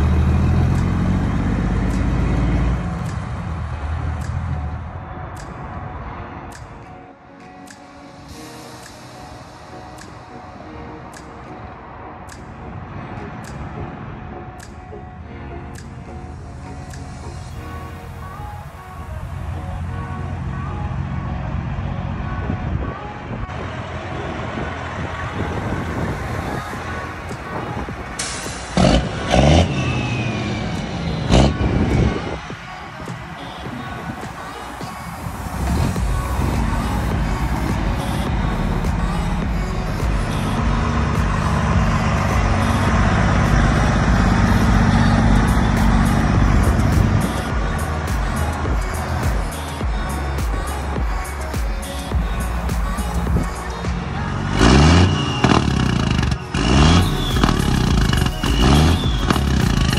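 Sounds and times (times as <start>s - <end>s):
diesel truck engine rumbling: 0.0s - 6.6s, 8.1s - 59.9s.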